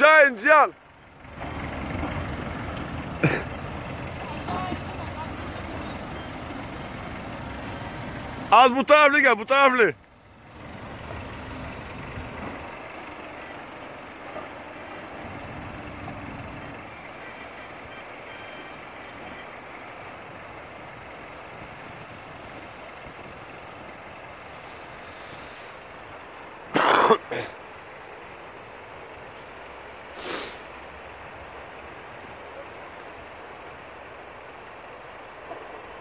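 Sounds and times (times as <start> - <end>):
off-road vehicle engine running: 0.0 - 36.0.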